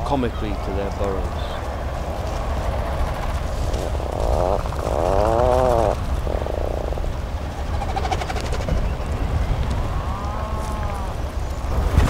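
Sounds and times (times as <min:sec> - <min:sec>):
puffins calling: 0:00.0 - 0:11.8.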